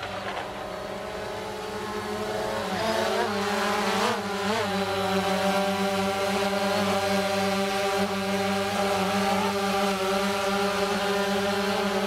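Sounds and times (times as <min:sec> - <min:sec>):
drone propellers whirring: 0:00.0 - 0:12.0.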